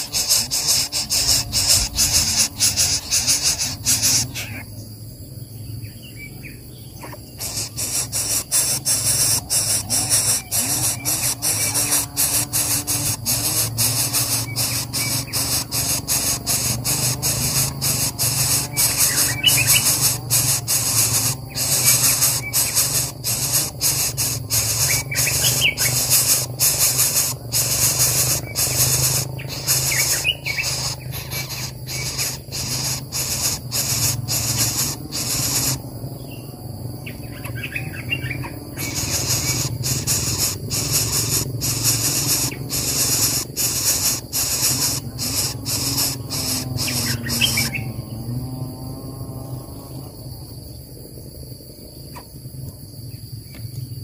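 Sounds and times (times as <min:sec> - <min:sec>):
chicks begging with raspy hiss: 0:00.0 - 0:05.0, 0:06.4 - 0:50.2
faint chirps: 0:00.0 - 0:50.8.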